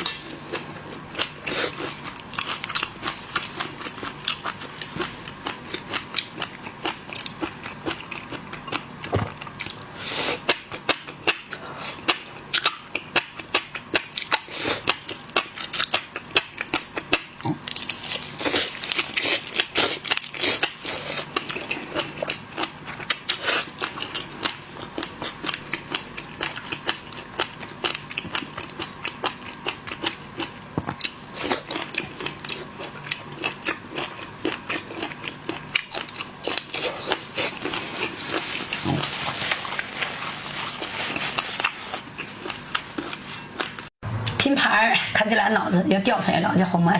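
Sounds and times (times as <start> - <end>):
chewing: 0.0 - 43.9.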